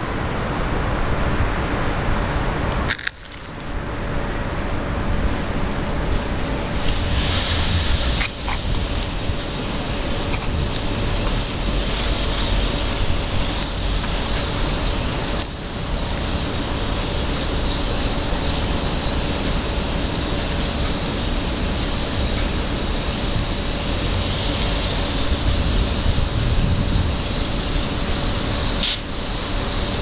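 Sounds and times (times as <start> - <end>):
continuous high hiss: 0.0 - 30.0
distant traffic: 0.0 - 30.0.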